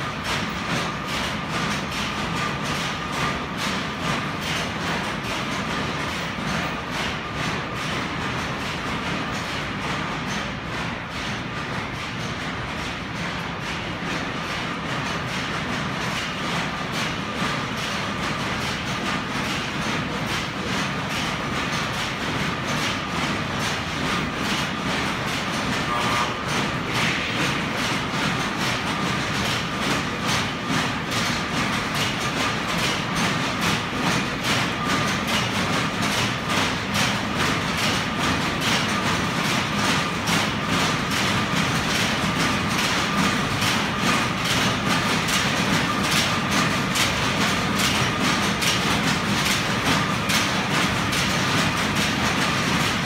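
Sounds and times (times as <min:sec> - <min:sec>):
power looms clattering: 0:00.0 - 0:53.0.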